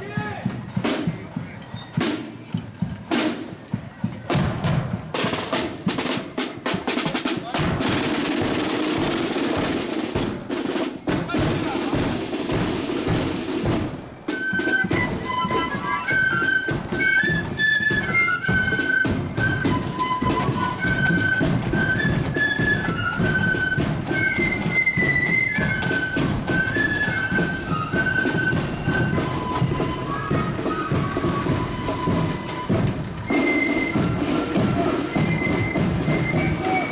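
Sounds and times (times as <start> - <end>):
marching drums rattling: 0.0 - 36.9
flute melody: 5.1 - 36.9.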